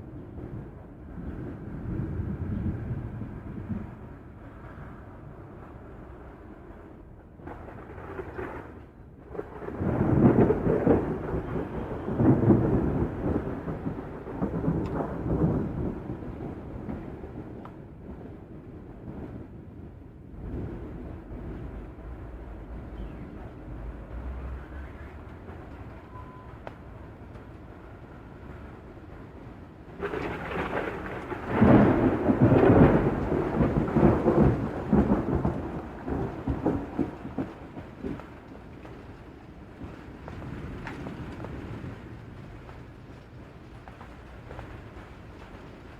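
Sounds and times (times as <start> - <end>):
rolling thunder: 0.0 - 45.9
steady rain: 0.0 - 45.9.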